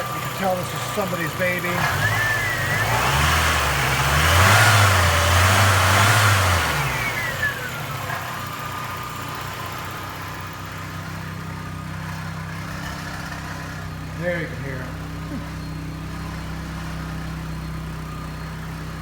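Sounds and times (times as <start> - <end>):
car engine revving and idling: 0.0 - 19.0
exhaust rattling: 0.0 - 19.0.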